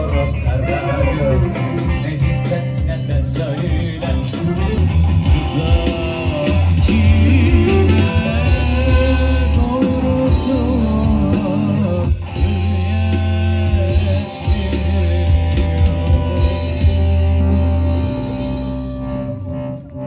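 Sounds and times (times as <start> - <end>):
man singing: 0.0 - 17.4
bass guitar: 0.0 - 20.0
electric guitars: 0.0 - 20.0.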